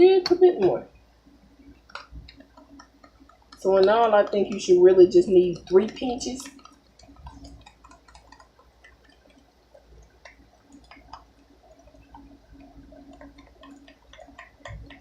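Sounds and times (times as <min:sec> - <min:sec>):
faint wet clicks: 0:00.2 - 0:15.0
pencil stirring slime: 0:01.8 - 0:15.0.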